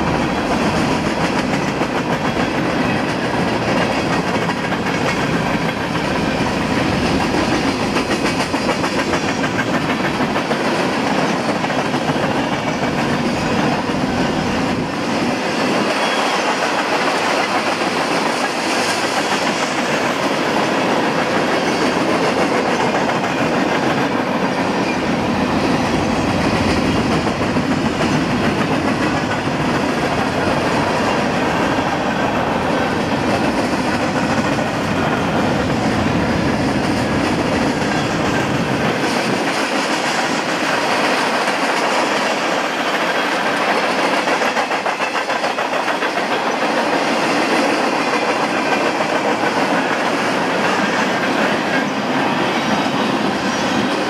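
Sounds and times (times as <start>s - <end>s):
freight train rolling past: 0.0s - 54.0s
steel wheels clacking over rail joints: 0.0s - 54.0s.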